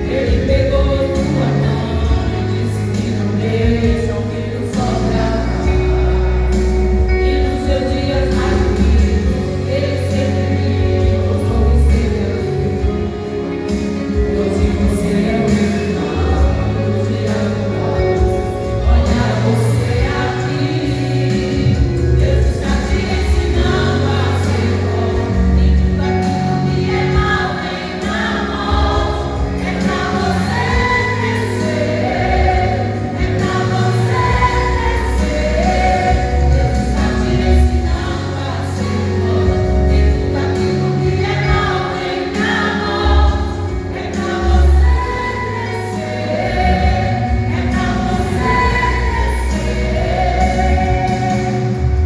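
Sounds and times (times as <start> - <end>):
band with strong bass line: 0.0 - 52.0
group singing a gospel song: 0.0 - 52.0.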